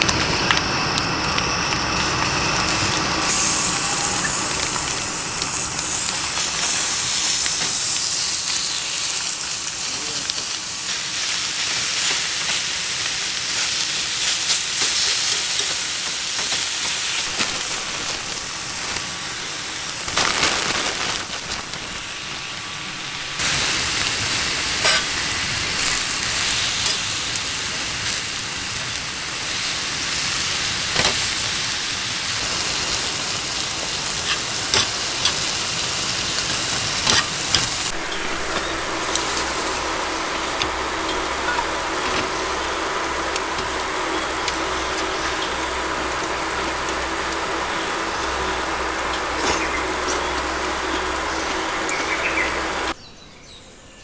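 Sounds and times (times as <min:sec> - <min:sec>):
food sizzling: 0:00.0 - 0:53.0
wood fire crackling: 0:00.0 - 0:53.0.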